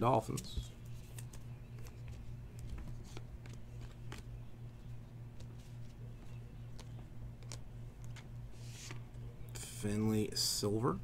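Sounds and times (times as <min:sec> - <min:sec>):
trading cards being flipped: 0:00.3 - 0:09.2.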